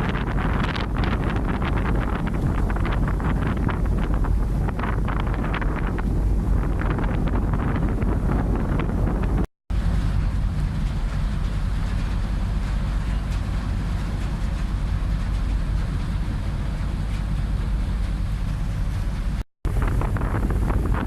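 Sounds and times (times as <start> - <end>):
low engine and hull rumble: 0.0 - 21.0
rushing air and water hiss: 0.0 - 21.0.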